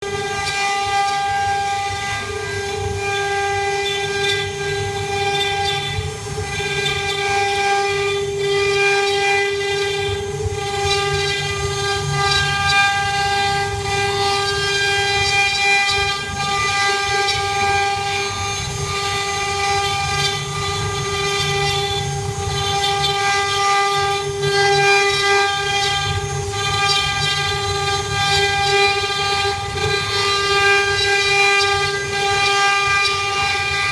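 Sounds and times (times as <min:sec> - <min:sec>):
router spindle high whine: 0:00.0 - 0:33.9.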